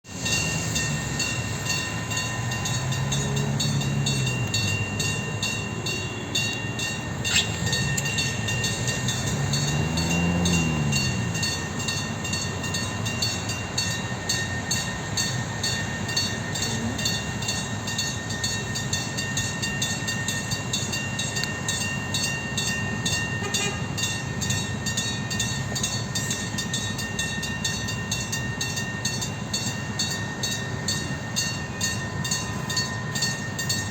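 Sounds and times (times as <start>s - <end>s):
train running with hum: 0.0s - 33.9s
constant high whine: 0.1s - 33.9s.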